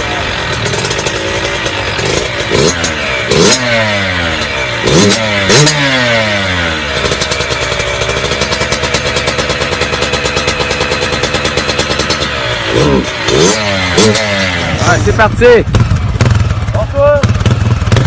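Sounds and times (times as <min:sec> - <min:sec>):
dirt bike engine revving and idling: 0:00.0 - 0:18.0.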